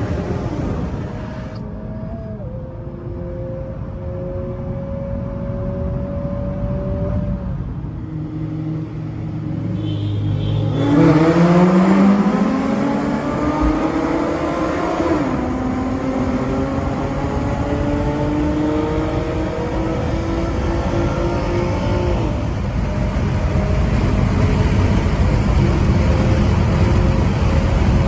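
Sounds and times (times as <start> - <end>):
car engine accelerating: 0.0 - 9.8, 10.7 - 28.0.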